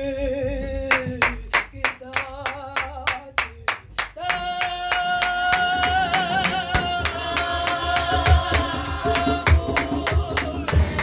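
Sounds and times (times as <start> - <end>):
hand clapping: 0.9 - 11.0.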